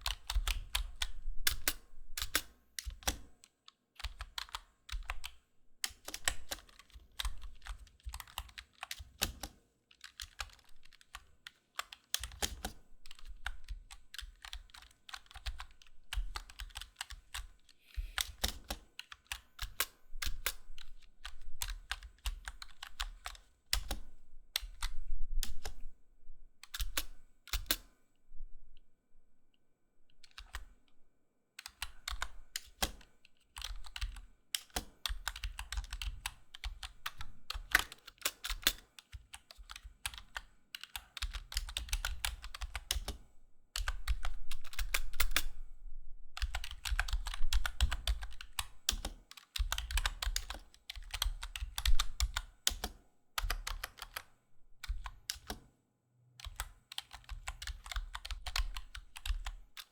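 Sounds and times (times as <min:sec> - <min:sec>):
computer keyboard typing: 0:00.0 - 0:25.8, 0:26.6 - 0:27.9, 0:31.6 - 0:43.2, 0:43.8 - 0:45.6, 0:46.4 - 0:55.7, 0:56.4 - 0:59.9.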